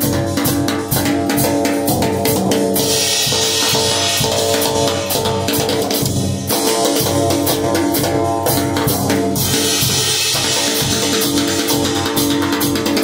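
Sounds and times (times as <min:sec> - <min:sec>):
drum kit played with sticks: 0:00.0 - 0:13.0.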